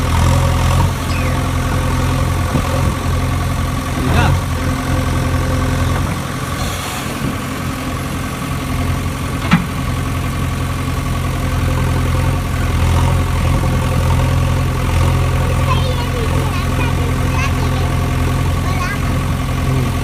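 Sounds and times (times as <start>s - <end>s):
heavy engine idling: 0.0s - 20.0s.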